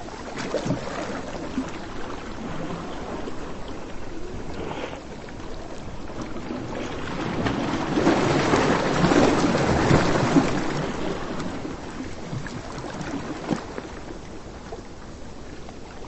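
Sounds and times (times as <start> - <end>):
waves washing on a beach: 0.0 - 16.0.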